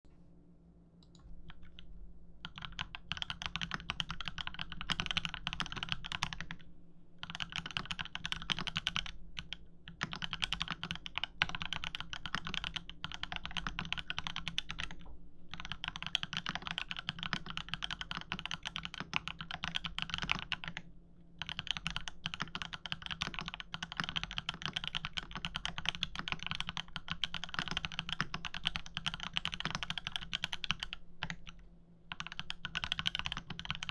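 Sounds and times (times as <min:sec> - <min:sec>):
mechanical keyboard typing: 0:01.0 - 0:06.6, 0:07.2 - 0:20.8, 0:21.4 - 0:33.9.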